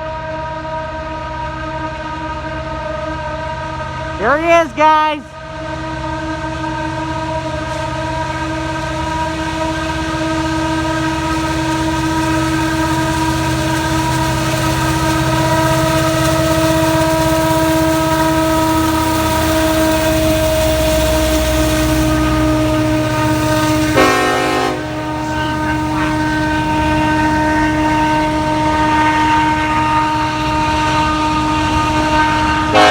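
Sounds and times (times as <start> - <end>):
diesel locomotives rumbling: 0.0 - 32.9.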